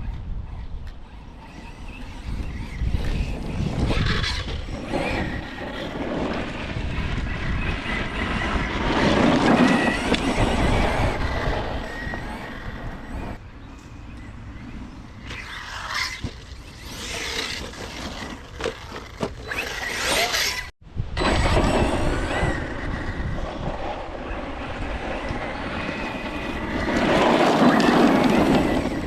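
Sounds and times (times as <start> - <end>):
electric motor whining: 0.0 - 13.4, 14.1 - 29.0
tyre and ground noise: 0.0 - 29.0.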